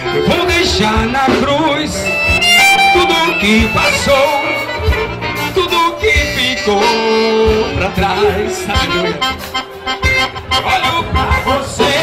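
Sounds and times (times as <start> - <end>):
gospel band playing over speakers: 0.0 - 12.0
lead instrument melody: 0.0 - 12.0
steady low drum beat: 0.1 - 12.0.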